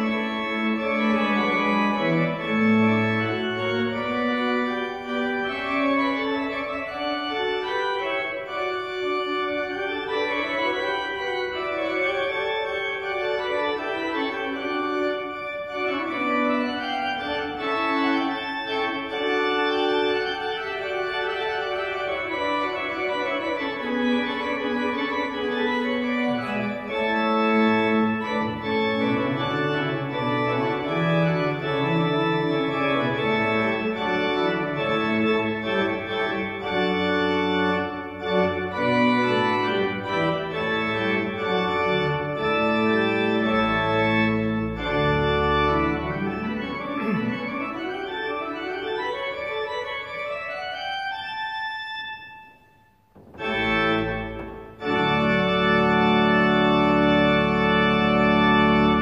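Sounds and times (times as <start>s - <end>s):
low organ bass notes: 0.0s - 52.0s, 53.0s - 59.0s
church organ playing chords: 0.0s - 59.0s.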